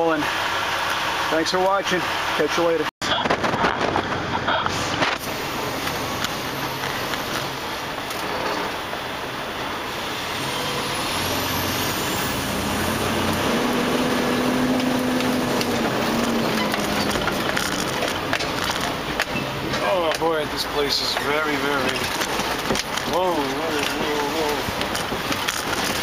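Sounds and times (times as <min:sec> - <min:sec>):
truck engine and cab rumble: 0:00.0 - 0:26.0.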